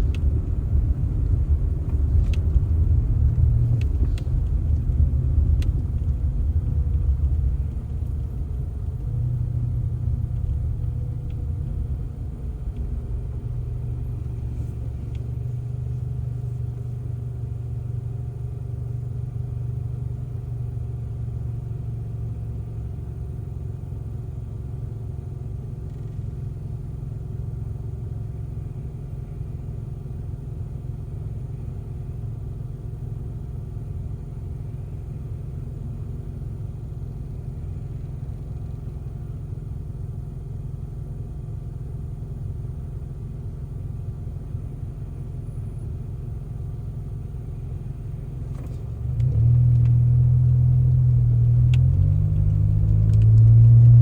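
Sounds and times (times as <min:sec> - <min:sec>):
engine running with low rumble: 0:00.0 - 0:54.0.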